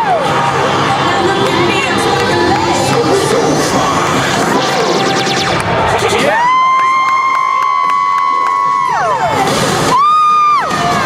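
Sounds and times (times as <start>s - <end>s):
crowd cheering and shouting: 0.0s - 11.0s
loud cheerleading music: 0.0s - 11.0s.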